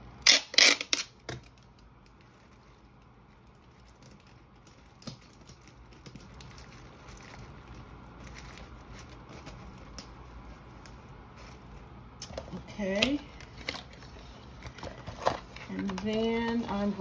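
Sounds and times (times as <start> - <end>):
paper and plastic rustling: 1.4 - 17.0.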